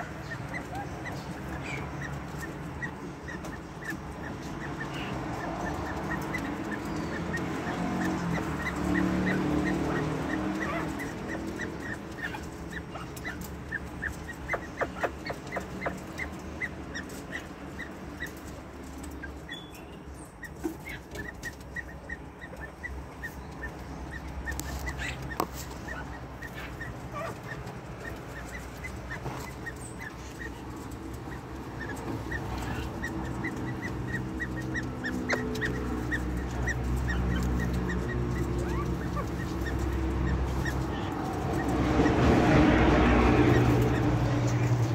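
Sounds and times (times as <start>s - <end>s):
quail peeping: 0.0s - 44.9s.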